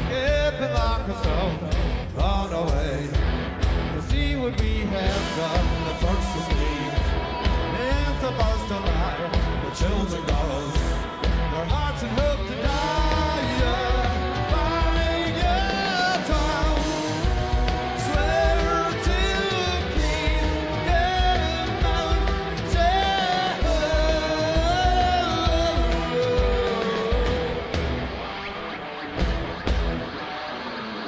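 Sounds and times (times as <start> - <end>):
person singing lead vocal: 0.0 - 28.2
rock band playing live: 0.0 - 31.0.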